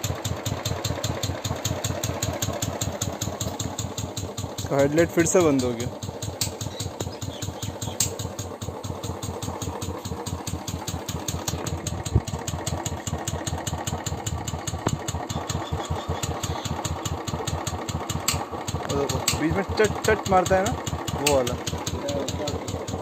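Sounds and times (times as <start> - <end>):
motorcycle engine idling: 0.0 - 23.0
sharp engine ticks: 0.0 - 23.0.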